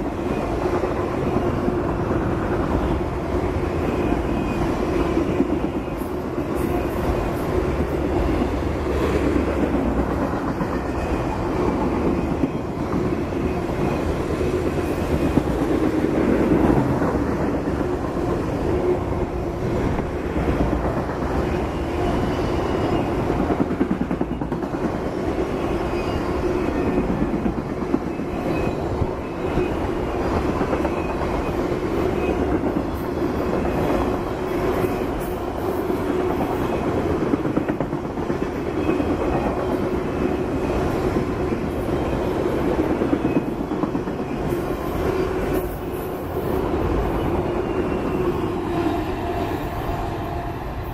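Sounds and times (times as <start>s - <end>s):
freight train rolling past: 0.0s - 50.9s.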